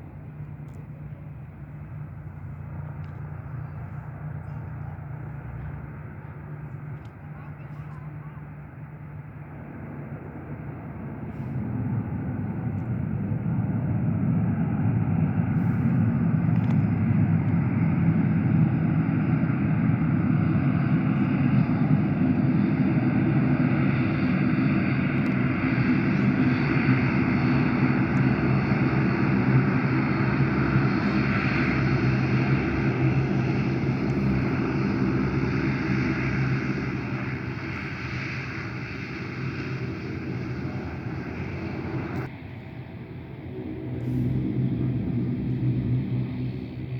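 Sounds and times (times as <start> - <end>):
airliner engines droning: 0.0 - 46.9.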